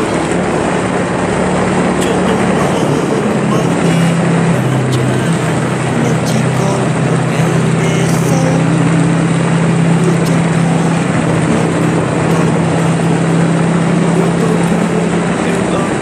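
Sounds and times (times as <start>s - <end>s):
motorbike engine hum: 0.0s - 16.0s
wind and road noise: 0.0s - 16.0s.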